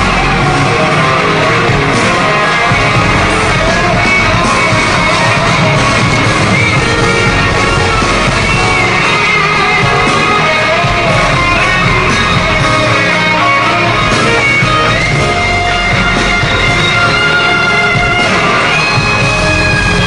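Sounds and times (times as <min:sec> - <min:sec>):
electric guitar: 0:00.0 - 0:20.0
live rock concert music: 0:00.0 - 0:20.0.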